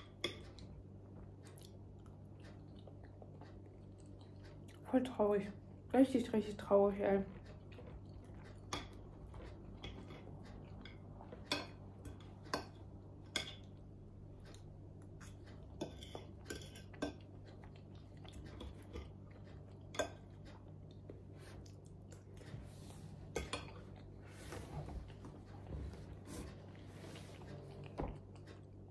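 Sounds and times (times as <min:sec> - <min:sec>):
soft chewing: 0:00.0 - 0:28.9.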